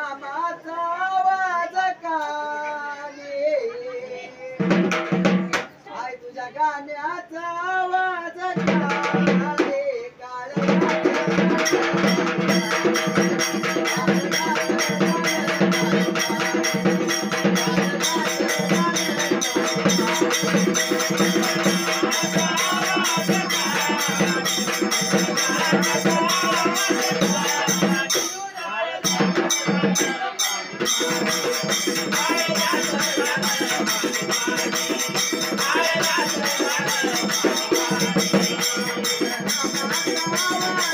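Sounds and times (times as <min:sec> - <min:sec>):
drum and rattling percussion: 0:04.6 - 0:05.8, 0:08.5 - 0:09.8, 0:10.6 - 0:40.9.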